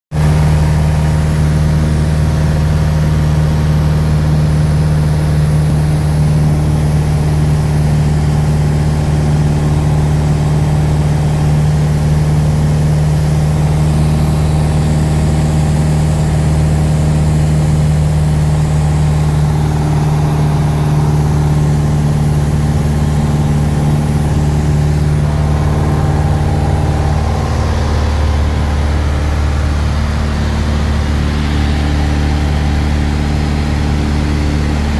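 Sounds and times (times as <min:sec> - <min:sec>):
light aircraft engine droning: 0:00.2 - 0:34.9.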